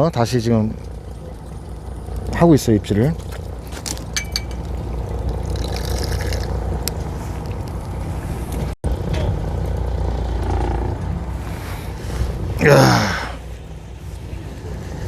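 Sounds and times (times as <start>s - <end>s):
boat engine humming: 0.0s - 15.0s
wind and water hiss: 0.0s - 15.0s.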